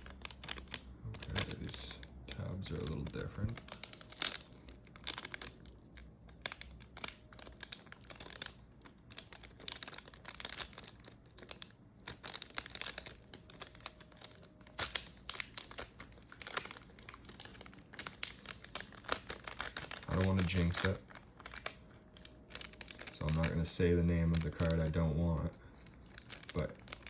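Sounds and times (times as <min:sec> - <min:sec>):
packaging crinkling and tearing: 0:00.0 - 0:27.0.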